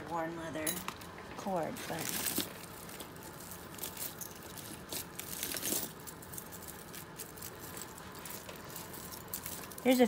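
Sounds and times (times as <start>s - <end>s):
jewelry clinking and rattling: 0.1s - 10.0s.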